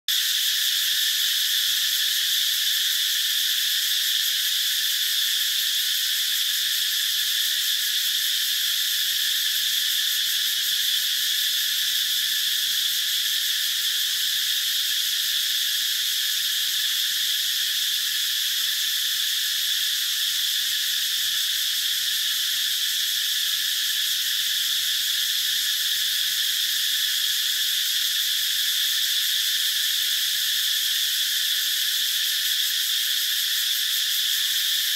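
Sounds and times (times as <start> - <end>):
cicadas calling: 0.1 - 34.9.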